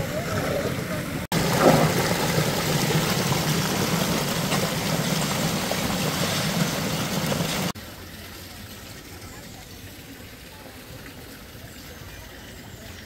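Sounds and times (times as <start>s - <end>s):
floodwater rushing over a wall: 0.0s - 13.0s.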